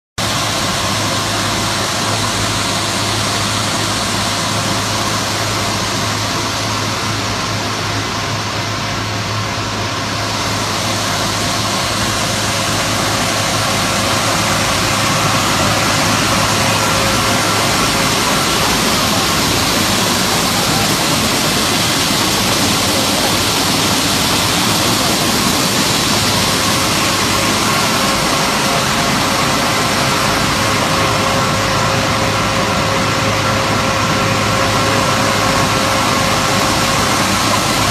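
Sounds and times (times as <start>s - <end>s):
machinery drone with hum: 0.2s - 37.9s.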